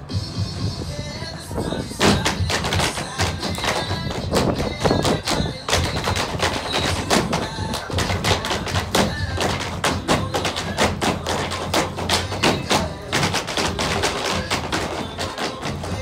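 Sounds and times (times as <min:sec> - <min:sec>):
backing music with bass line: 0:00.0 - 0:16.0
tap shoes on stage floor: 0:02.0 - 0:16.0.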